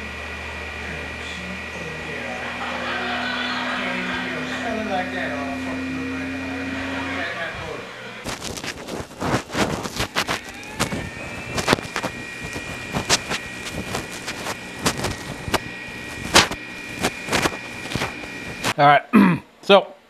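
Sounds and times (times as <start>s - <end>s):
high-pitched motor whine: 0.0s - 18.8s.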